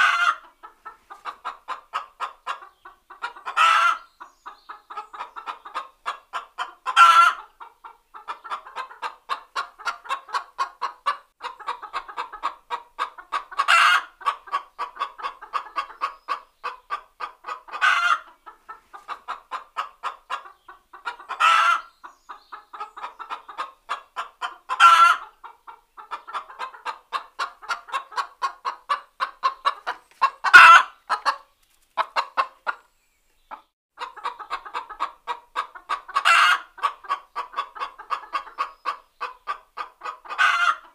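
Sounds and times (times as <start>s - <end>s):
hen cackling: 0.0s - 32.8s, 33.5s - 40.9s.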